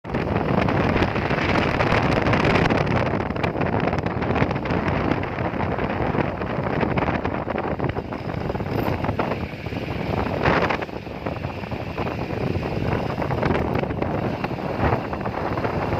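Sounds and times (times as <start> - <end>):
road noise: 0.0 - 15.9
wind buffeting microphone: 0.0 - 15.9
motorcycle engine: 0.1 - 15.9.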